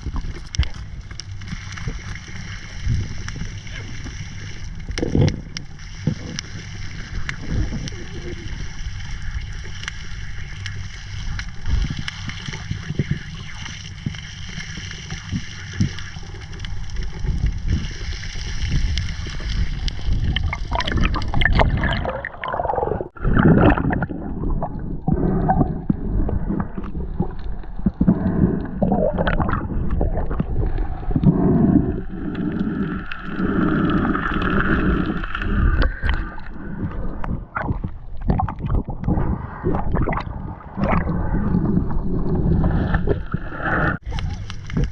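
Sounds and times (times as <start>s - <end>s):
irregular water splashing: 0.0s - 44.9s
water gurgling and sloshing: 0.0s - 44.9s.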